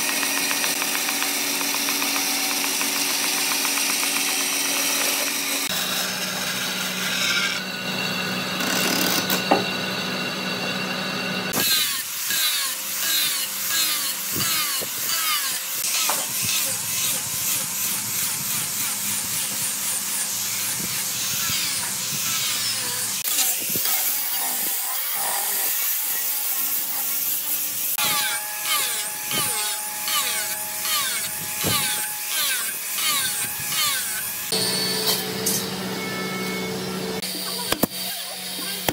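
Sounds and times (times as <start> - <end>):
power tool running: 0.0 - 38.9.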